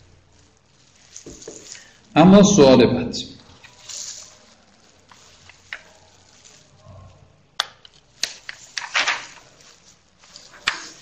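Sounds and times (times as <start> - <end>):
faint rustling: 0.0 - 2.3, 3.4 - 11.0.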